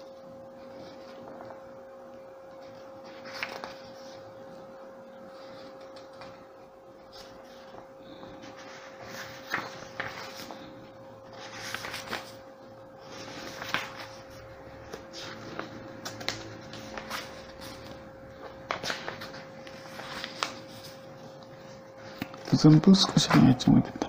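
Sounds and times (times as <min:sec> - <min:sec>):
steady high-pitched hum: 0:00.0 - 0:24.0.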